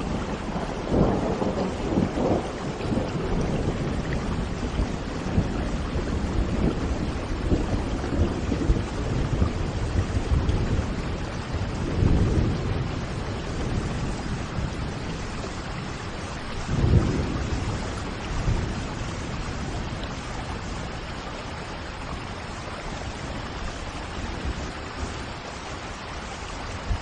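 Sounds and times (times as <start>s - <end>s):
thunder rumbling: 0.0s - 25.4s
steady rain falling: 0.0s - 27.0s.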